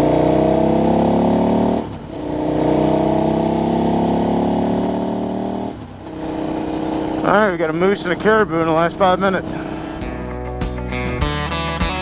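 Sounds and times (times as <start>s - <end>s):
wind and road noise: 0.0s - 10.9s
motorcycle engine accelerating: 0.0s - 12.0s.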